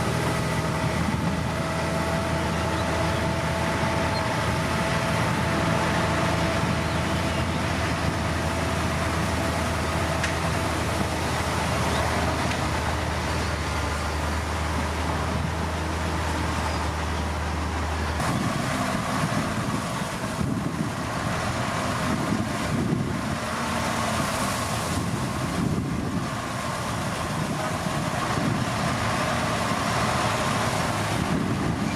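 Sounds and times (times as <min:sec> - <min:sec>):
heavy machinery diesel engines: 0:00.0 - 0:31.9.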